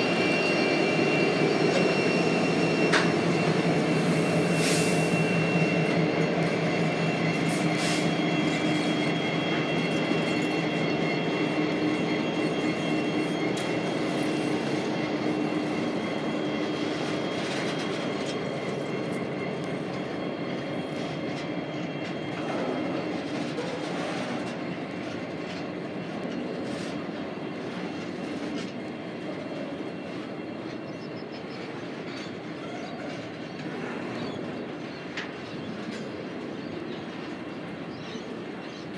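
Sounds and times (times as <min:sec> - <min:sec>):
diesel locomotive humming: 0:00.0 - 0:38.9.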